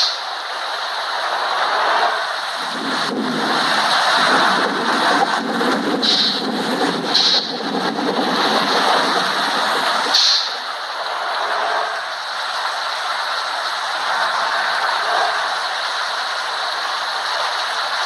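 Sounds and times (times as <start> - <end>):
road vehicle moving: 0.0 - 18.0.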